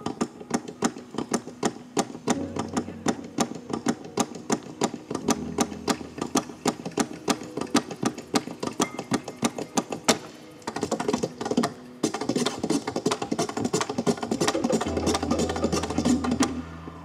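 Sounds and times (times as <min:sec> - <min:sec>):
tap shoes tapping on board: 0:00.0 - 0:16.6.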